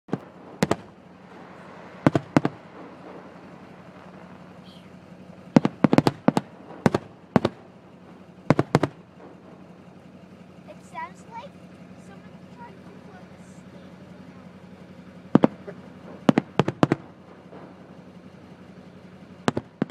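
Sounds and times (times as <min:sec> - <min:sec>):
fireworks bangs: 0:00.1 - 0:19.9.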